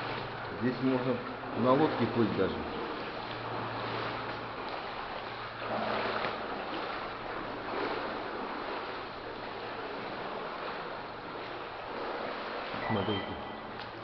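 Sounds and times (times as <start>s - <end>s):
sloshing through shallow water: 0.0s - 14.0s.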